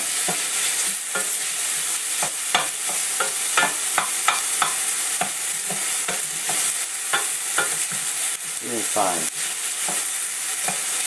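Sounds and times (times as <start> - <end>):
bacon and onion sizzling: 0.0 - 11.0.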